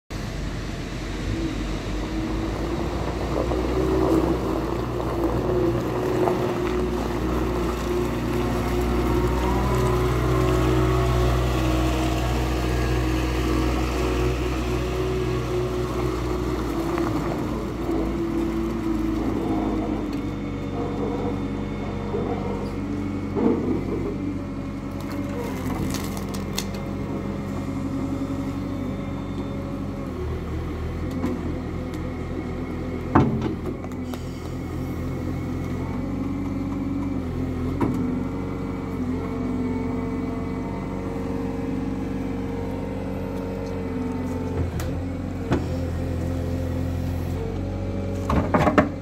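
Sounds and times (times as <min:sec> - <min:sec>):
wheel loader diesel engine running: 0:00.1 - 0:49.0.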